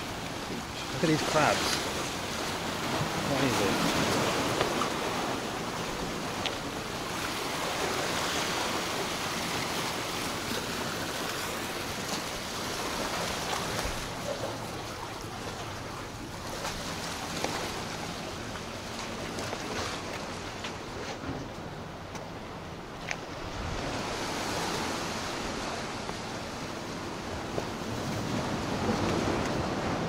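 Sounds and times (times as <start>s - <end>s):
waves splashing against rocks: 0.0s - 30.0s.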